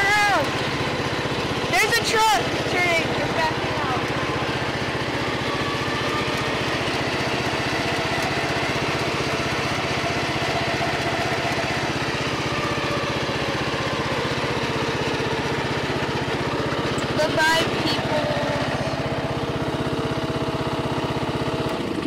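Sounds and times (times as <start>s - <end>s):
riding mower engine running: 0.0s - 22.0s.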